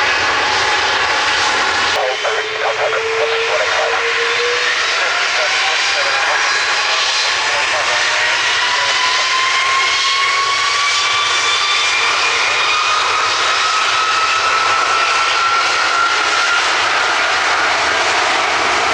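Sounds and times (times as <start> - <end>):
jet engine roaring and whining: 0.0 - 18.9.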